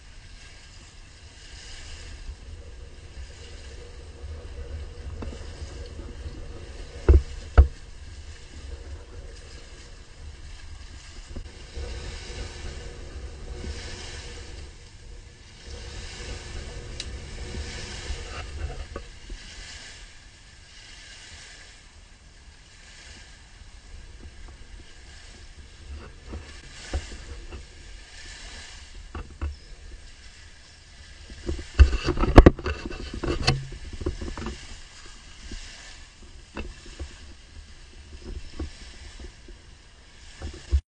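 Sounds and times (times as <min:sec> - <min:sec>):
small waves washing ashore: 0:00.0 - 0:40.8
wind buffeting microphone: 0:00.0 - 0:40.8.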